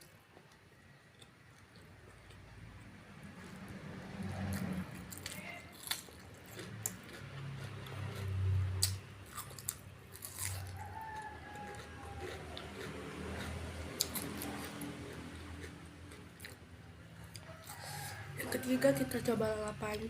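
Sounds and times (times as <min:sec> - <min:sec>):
person chewing crunchy food: 0:00.0 - 0:18.4.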